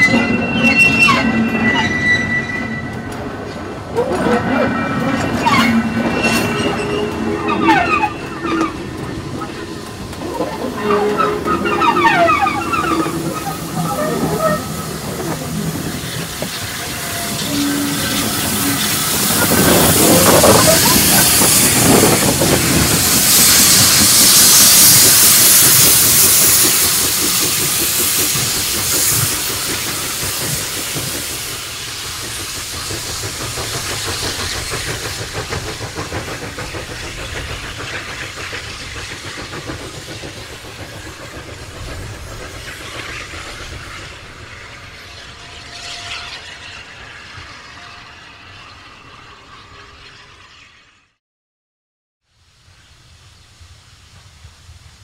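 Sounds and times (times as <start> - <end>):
steam locomotive hissing: 0.0 - 51.0
train running on rails: 0.0 - 51.2, 52.4 - 55.0.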